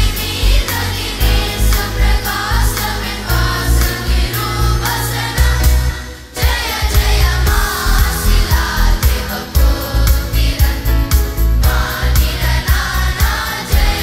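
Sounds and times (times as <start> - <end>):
children's choir singing: 0.0 - 14.0
heavy bass beat: 0.0 - 14.0.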